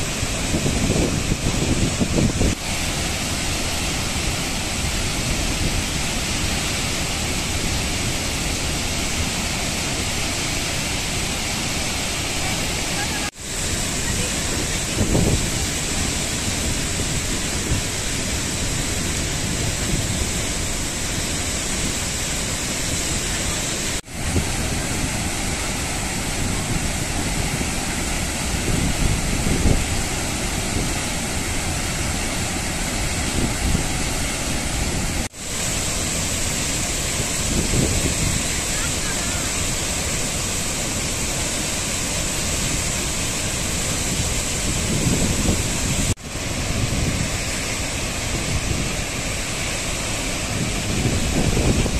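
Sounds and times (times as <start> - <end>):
water rushing over rock: 0.0 - 51.9.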